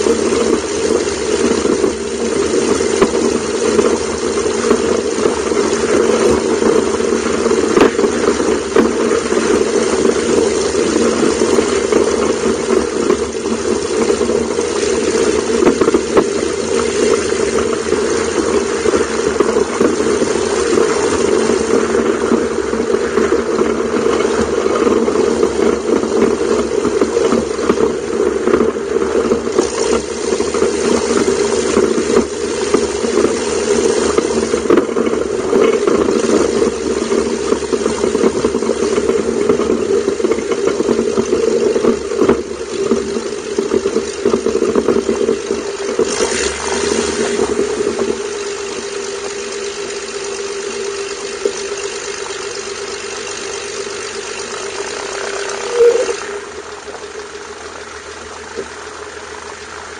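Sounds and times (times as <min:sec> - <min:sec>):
light aircraft engine idling: 0:00.0 - 0:59.9.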